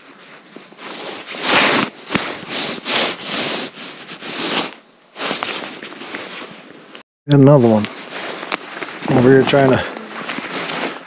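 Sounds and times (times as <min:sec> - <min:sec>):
hands and clothing rustling: 0:00.0 - 0:07.0, 0:07.7 - 0:11.0.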